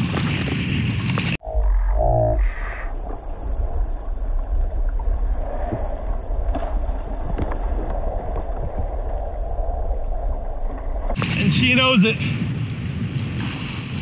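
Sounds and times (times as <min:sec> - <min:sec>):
water splashing against kayak: 0:00.0 - 0:01.4, 0:02.8 - 0:14.0
wind rumble on microphone: 0:00.0 - 0:14.0.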